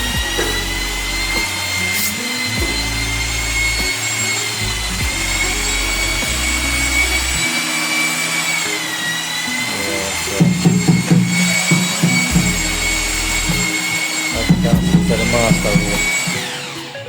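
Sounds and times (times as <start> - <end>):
background music with bass line: 0.0 - 7.8, 9.6 - 17.0
power tool motor whining: 0.0 - 17.0.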